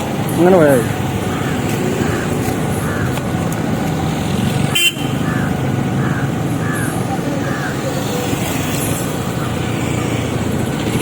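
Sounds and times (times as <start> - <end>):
road traffic and engine noise: 0.0 - 11.0.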